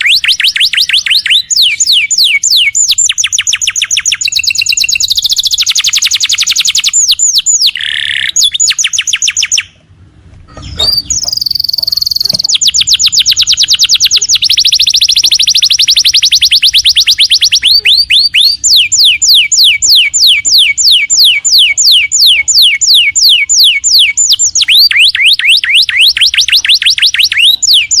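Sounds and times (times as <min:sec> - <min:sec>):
canary singing trills: 0:00.0 - 0:09.8, 0:10.5 - 0:28.0.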